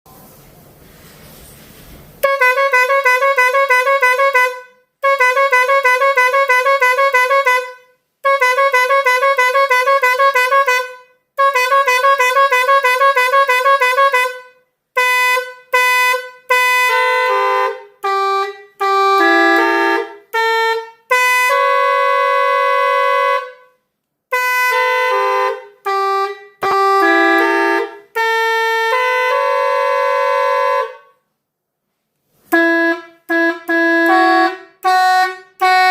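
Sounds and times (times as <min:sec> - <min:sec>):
multi-tone truck horn: 0:02.2 - 0:31.2, 0:32.5 - 0:35.9.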